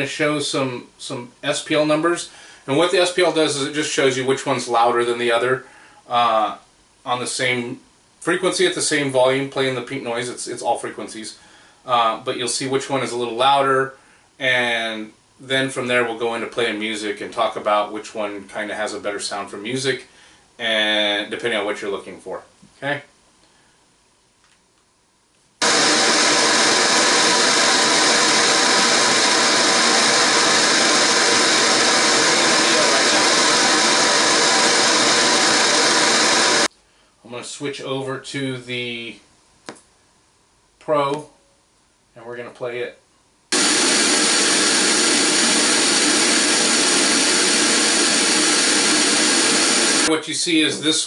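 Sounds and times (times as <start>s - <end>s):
pink noise hiss through speaker: 0.0s - 23.1s, 25.6s - 39.8s, 42.1s - 51.0s.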